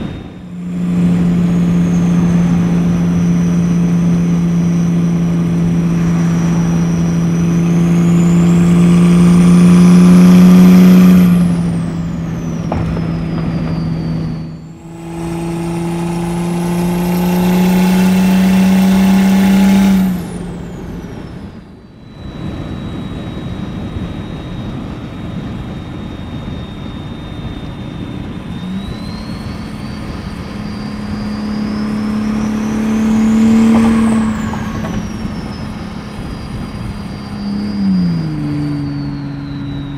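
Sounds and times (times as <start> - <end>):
diesel engine pulling hard: 0.0 - 39.9
high turbo whistle: 0.0 - 39.9.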